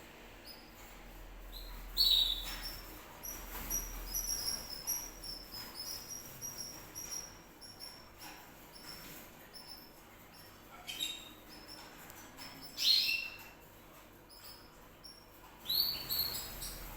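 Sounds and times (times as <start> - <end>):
canary singing: 1.5 - 16.9.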